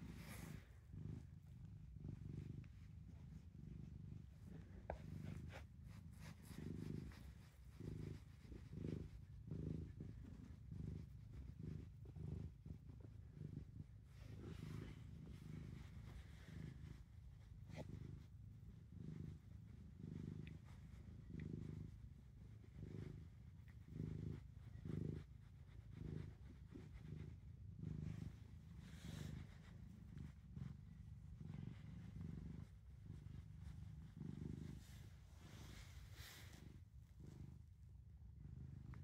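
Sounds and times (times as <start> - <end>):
hand rubbing fur: 0.0 - 37.4
cat purring: 0.0 - 39.0.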